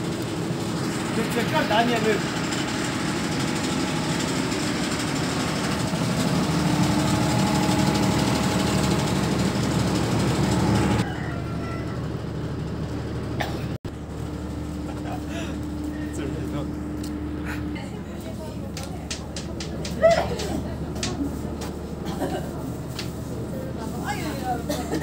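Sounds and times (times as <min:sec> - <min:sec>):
diesel generator engine drone: 0:00.0 - 0:25.0.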